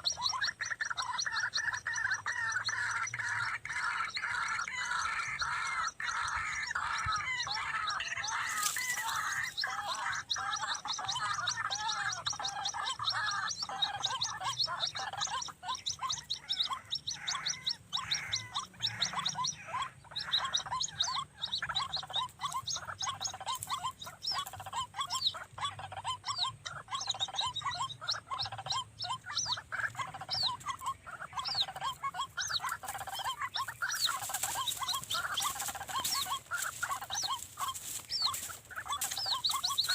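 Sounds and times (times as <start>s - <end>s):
waterhen croaking calls: 0.0s - 39.9s.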